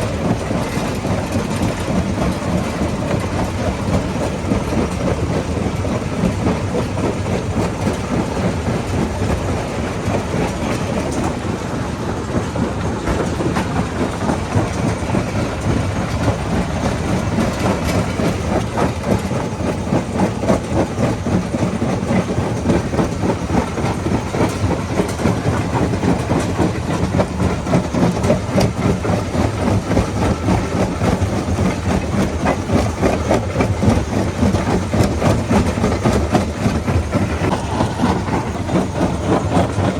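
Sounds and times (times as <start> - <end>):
heavy engine drone: 0.0 - 39.9.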